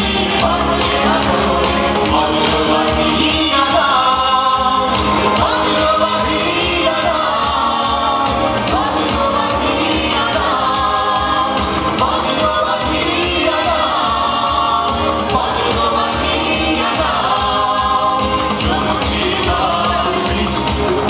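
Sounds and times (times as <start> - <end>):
guitar: 0.0 - 21.0
steady beat: 0.0 - 21.0
voices singing together: 0.0 - 21.0.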